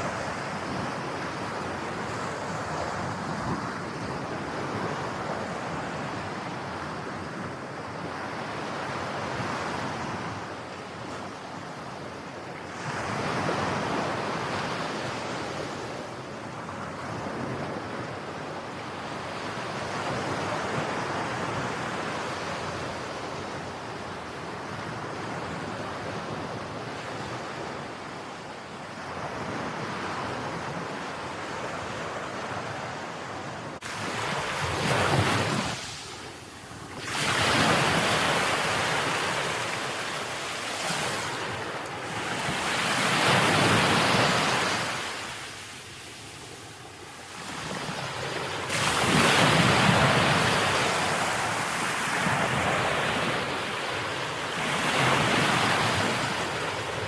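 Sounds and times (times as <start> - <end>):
ocean waves breaking on shore: 0.0 - 57.0
wind noise on microphone: 0.0 - 57.0.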